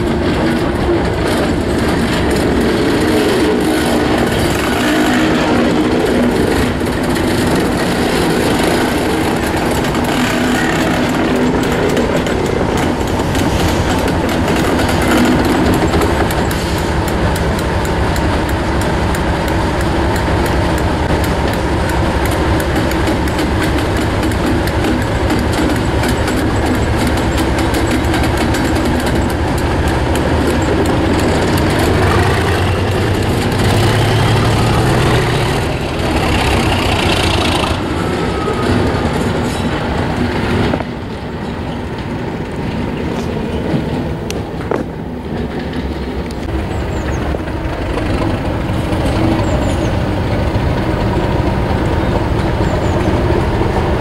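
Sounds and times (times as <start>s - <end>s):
diesel locomotive engine running: 0.0s - 54.0s
wheel and rail noise: 0.0s - 54.0s.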